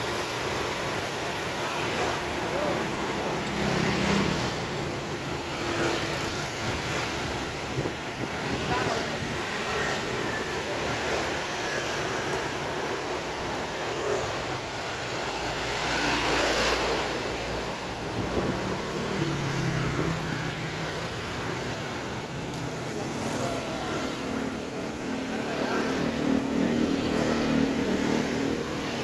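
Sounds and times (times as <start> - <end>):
road noise: 0.0 - 29.0
vehicles passing on road: 0.0 - 29.0.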